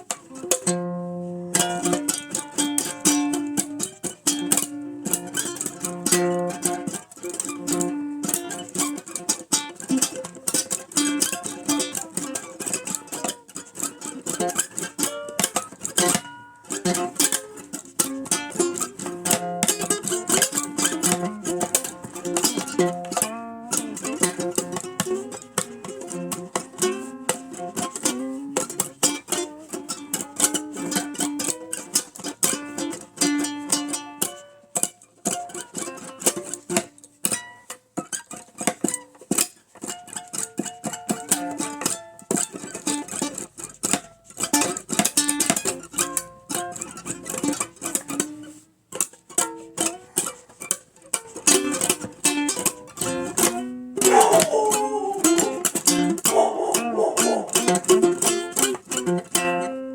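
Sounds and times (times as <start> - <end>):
plucked string instrument: 0.0 - 59.9
ukulele playing: 0.0 - 59.9.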